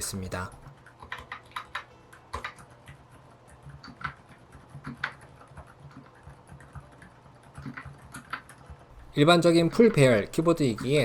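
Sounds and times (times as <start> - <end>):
quiet keyboard typing: 0.0 - 11.0.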